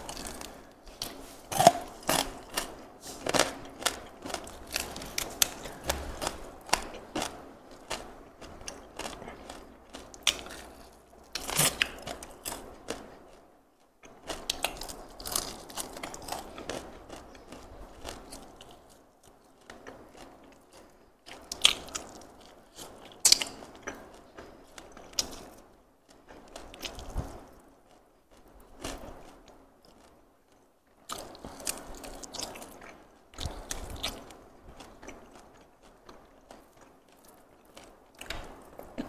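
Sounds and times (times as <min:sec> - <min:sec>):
person chewing crunchy fried chicken: 0:00.0 - 0:39.0.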